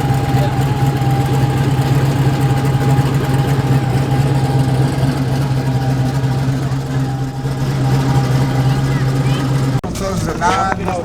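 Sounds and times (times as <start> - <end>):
engine droning: 0.0 - 11.0
thin steady whine: 0.0 - 11.0.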